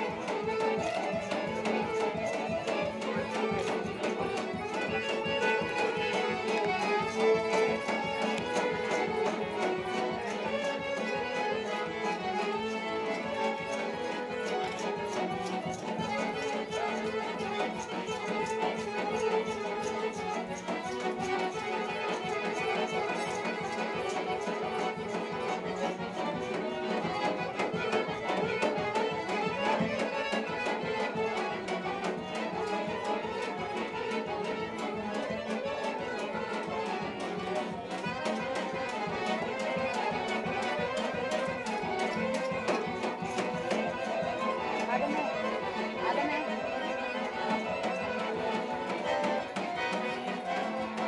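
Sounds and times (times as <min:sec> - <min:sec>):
violins playing folk dance music: 0:00.0 - 0:51.0.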